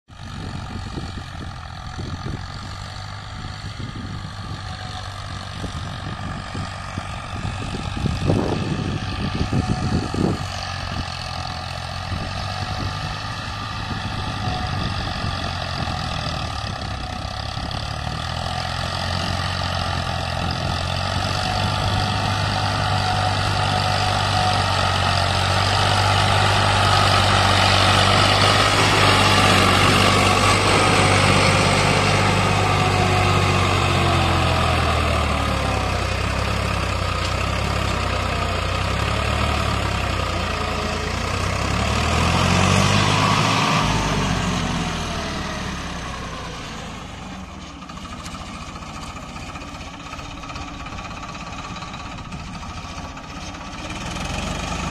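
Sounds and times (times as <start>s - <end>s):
tractor diesel engine drone: 0.1s - 54.9s.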